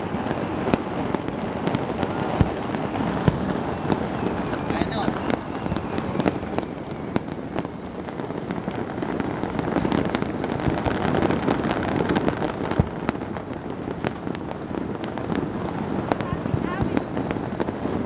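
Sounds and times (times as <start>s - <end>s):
firecracker cracks and pops: 0.0s - 18.0s
rumble of distant firework bursts: 0.0s - 18.0s.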